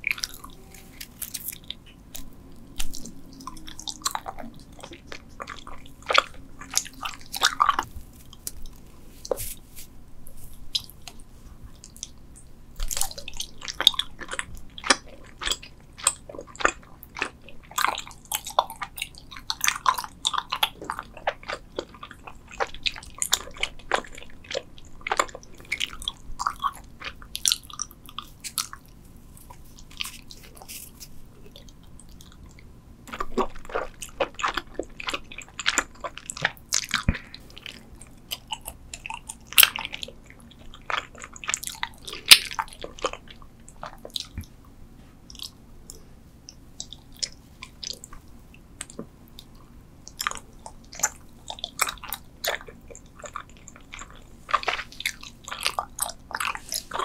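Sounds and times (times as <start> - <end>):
chewing gummy candy: 0.0 - 9.4, 10.4 - 57.0.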